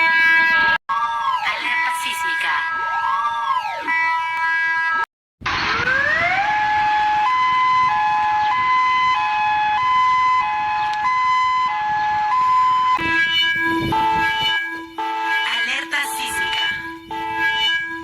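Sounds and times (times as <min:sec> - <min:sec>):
stepped siren tones: 0:00.0 - 0:18.0
two-tone siren: 0:00.0 - 0:18.0.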